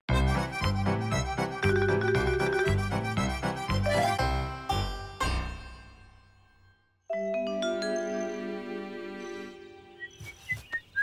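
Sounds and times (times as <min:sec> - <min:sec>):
keyboard chords ringing: 0:00.5 - 0:10.0.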